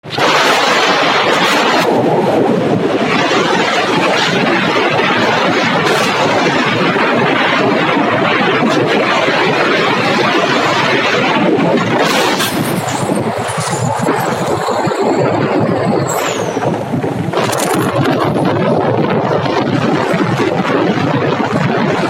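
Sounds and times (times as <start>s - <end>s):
motorcycle riding: 0.0s - 22.0s
wind on microphone: 0.0s - 22.0s.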